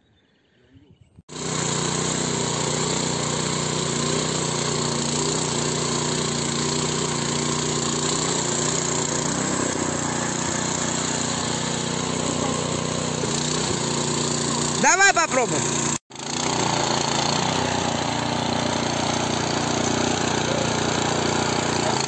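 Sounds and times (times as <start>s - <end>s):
garden cultivator engine running: 1.3s - 22.0s
tines churning soil: 1.3s - 22.0s.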